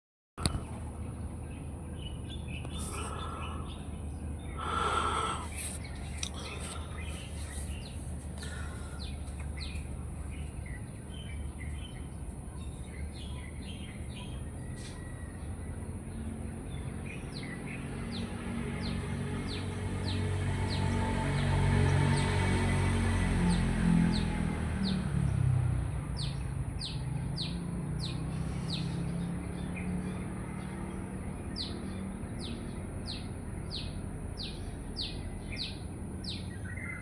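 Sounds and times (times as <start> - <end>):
birds chirping: 0.4 - 20.9, 26.2 - 37.0.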